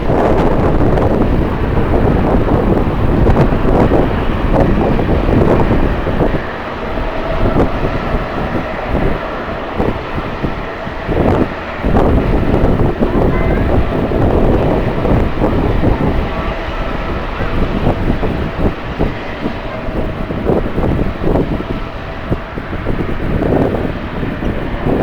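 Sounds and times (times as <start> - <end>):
jet engines running: 0.0 - 25.0
wind buffeting microphone: 0.0 - 25.0.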